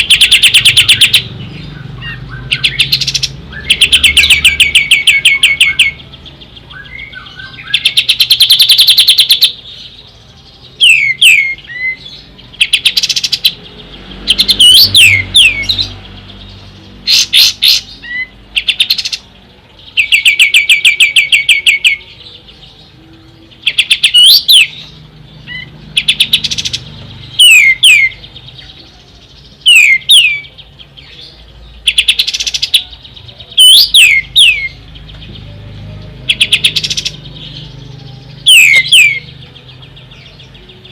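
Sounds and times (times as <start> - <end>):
songbird singing trills and whistles: 0.0 - 40.9.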